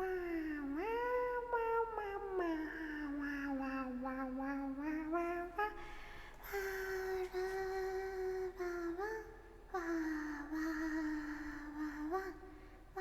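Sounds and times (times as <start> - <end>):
woman making sing-song vocal noises: 0.0 - 5.8, 6.4 - 13.0.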